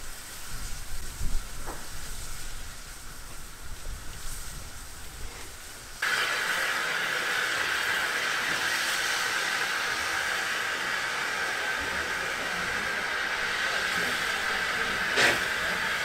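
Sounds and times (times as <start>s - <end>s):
steam venting hiss: 0.0s - 16.0s.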